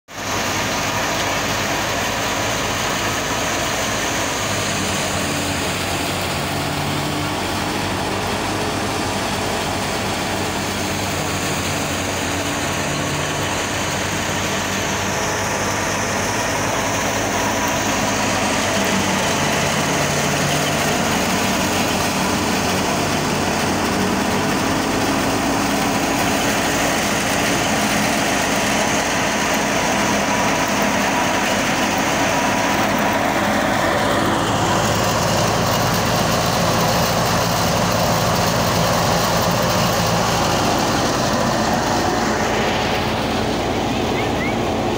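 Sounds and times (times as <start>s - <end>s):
tractor diesel engine: 0.1s - 44.9s
wheat thresher running: 0.1s - 44.9s.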